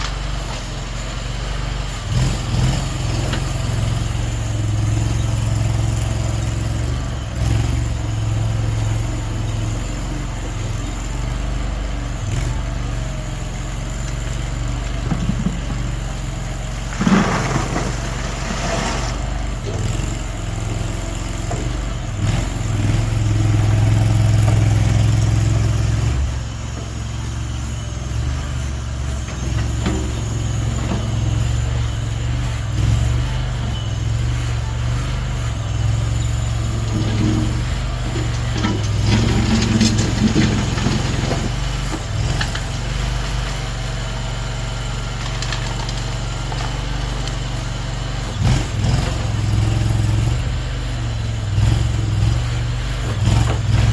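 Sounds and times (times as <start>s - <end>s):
skid steer engine running: 0.0s - 53.9s.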